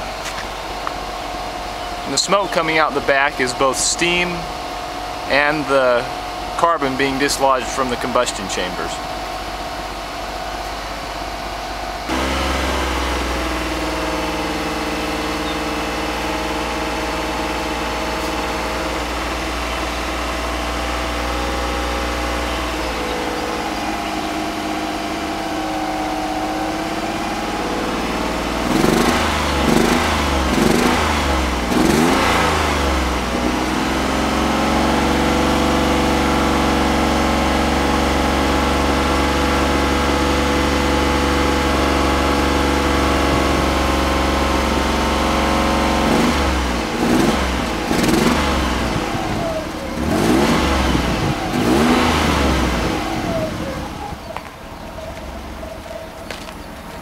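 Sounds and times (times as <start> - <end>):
car engine fast idle: 0.0 - 57.0.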